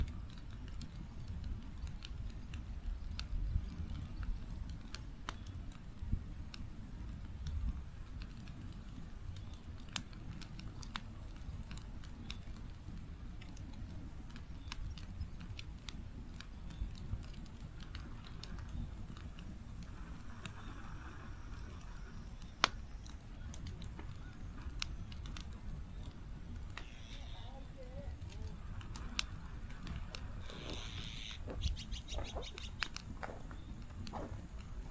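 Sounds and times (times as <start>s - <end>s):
fire rumbling: 0.0s - 34.9s
logs crackling and popping: 0.0s - 34.9s.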